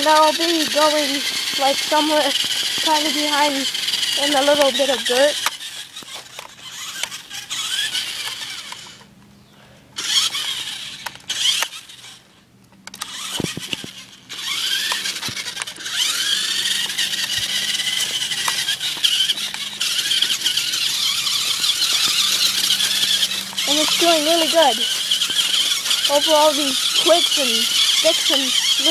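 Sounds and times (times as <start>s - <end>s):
toy truck motor whining: 0.0s - 9.1s, 10.0s - 28.9s.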